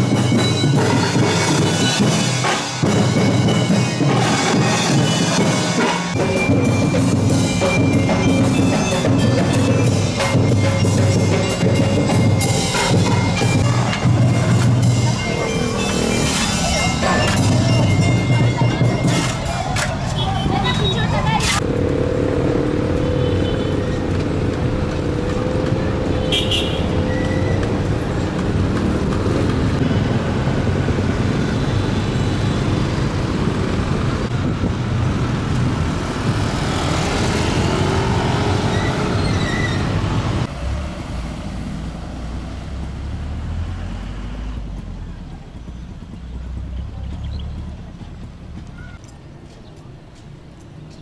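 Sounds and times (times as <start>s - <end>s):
low traffic rumble: 0.0s - 51.0s
motorcycles passing: 0.0s - 51.0s.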